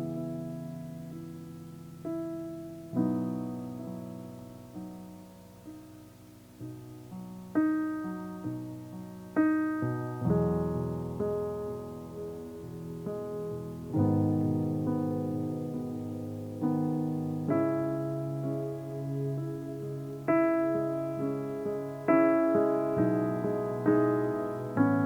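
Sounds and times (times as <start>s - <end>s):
slow solo piano music: 0.0s - 25.0s.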